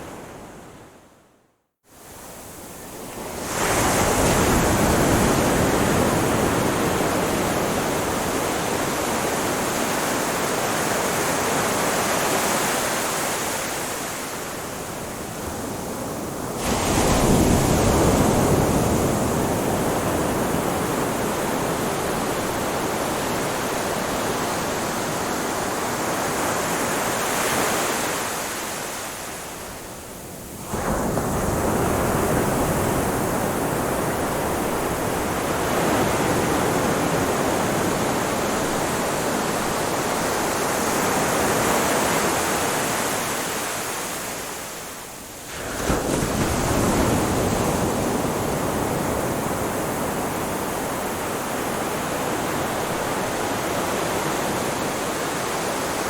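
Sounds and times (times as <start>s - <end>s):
ocean surf washing: 2.0s - 56.0s.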